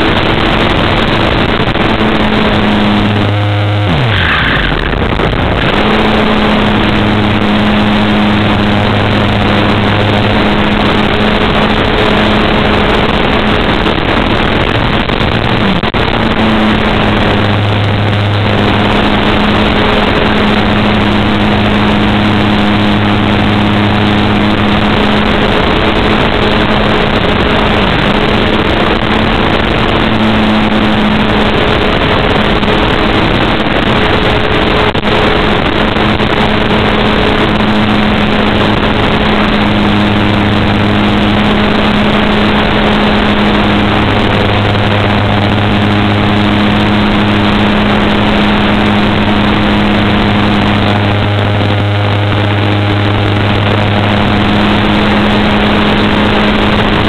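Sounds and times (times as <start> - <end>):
model airplane motor humming: 0.0 - 57.0
wind noise: 0.0 - 57.0.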